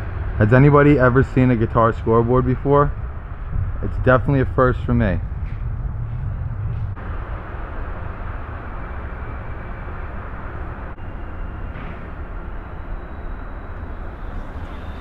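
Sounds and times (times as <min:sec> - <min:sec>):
outdoor rumble and hiss: 0:00.0 - 0:15.0.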